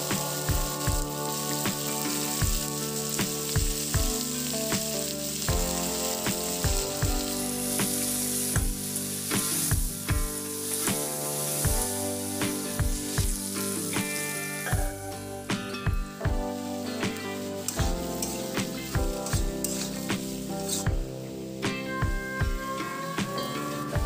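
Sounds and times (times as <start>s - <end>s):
background music with beat: 0.0s - 24.0s
potatoes sizzling in oil: 0.0s - 24.0s.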